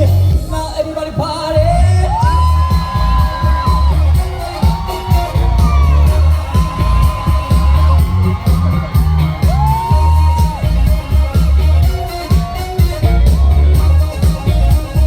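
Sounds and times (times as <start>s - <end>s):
dance music over loudspeakers: 0.0s - 15.0s
crowd whooping and cheering: 1.4s - 15.0s.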